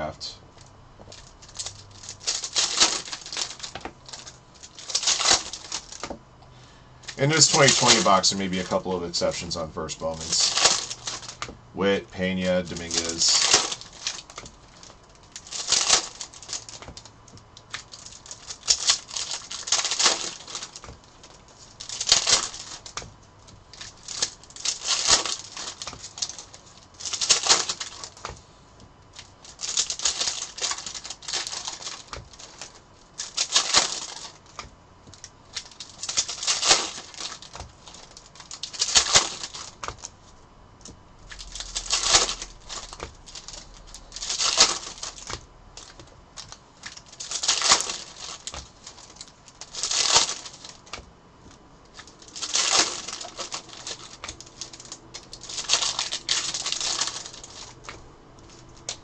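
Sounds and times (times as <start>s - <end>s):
cards and foil wrappers handled: 0.2s - 59.0s.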